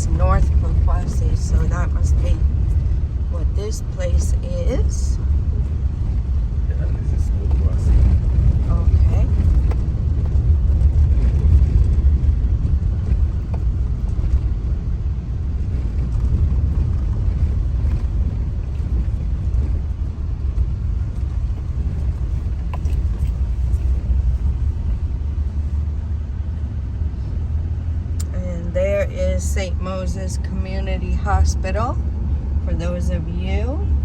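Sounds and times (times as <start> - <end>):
car engine running: 0.0 - 34.0
road rumble inside moving car: 0.0 - 34.0.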